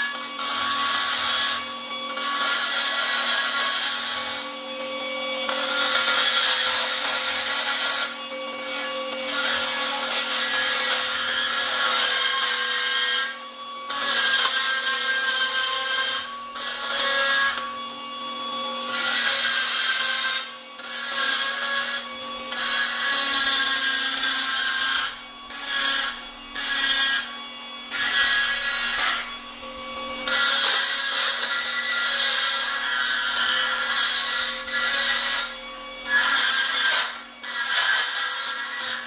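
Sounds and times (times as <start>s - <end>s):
burr grinding steel: 0.0s - 39.0s
die grinder motor whining: 0.0s - 39.0s.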